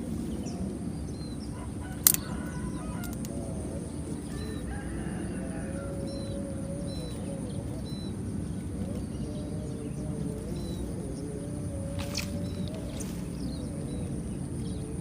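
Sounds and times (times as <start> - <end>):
distant fowl calling: 0.0 - 15.0
outdoor background noise: 0.0 - 15.0.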